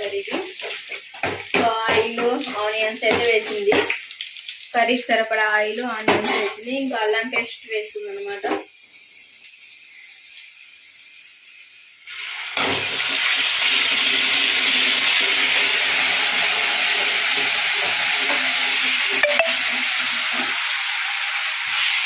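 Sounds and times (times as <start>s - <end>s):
frying sizzle in hot oil: 0.0s - 22.0s.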